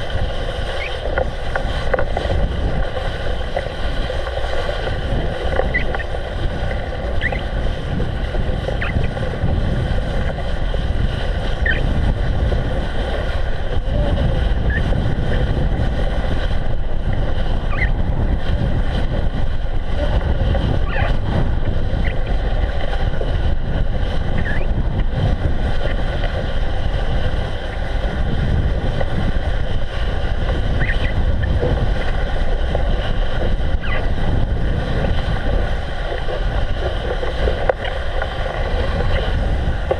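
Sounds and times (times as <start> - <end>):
bicycle rolling on snow: 0.0 - 39.9
wind buffeting microphone: 0.0 - 39.9.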